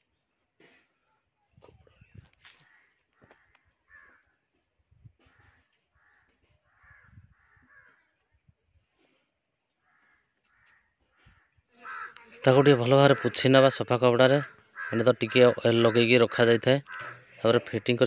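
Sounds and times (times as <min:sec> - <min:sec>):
faint crows cawing: 0:02.3 - 0:09.1, 0:09.7 - 0:18.0.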